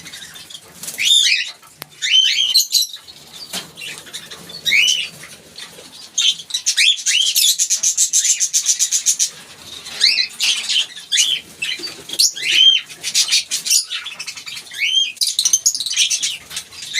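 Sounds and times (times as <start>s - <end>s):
lovebirds chattering: 0.0s - 16.9s.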